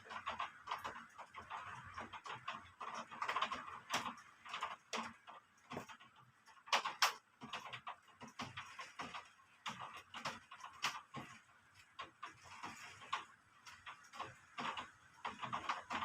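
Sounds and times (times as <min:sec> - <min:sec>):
heavy raindrops tapping: 0:00.0 - 0:16.0.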